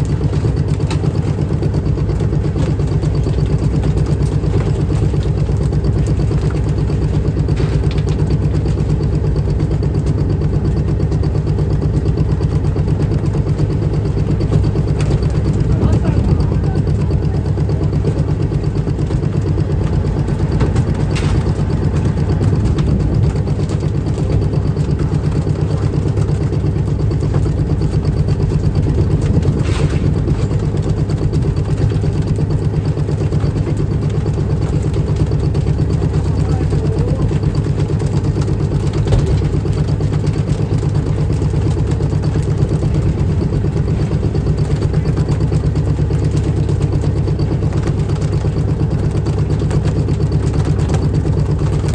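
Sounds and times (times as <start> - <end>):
boat engine throbbing: 0.0 - 51.9.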